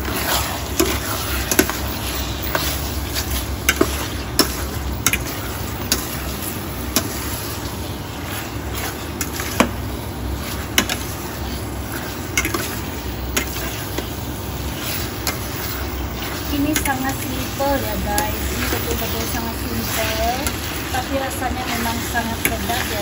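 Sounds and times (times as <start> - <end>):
chicken sizzling in a pan: 0.0 - 23.0.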